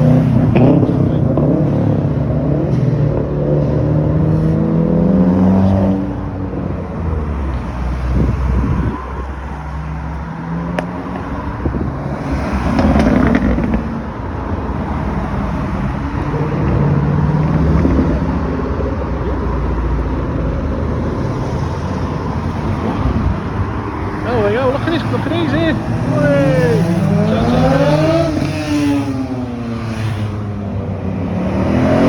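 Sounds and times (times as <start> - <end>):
sports cars driving past revving: 0.0 - 32.0.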